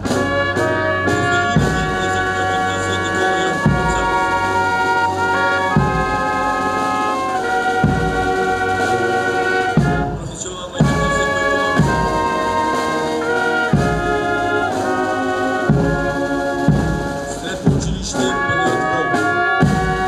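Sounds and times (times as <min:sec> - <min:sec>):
brass band playing slow march: 0:00.0 - 0:20.0
drum strokes: 0:00.0 - 0:20.0.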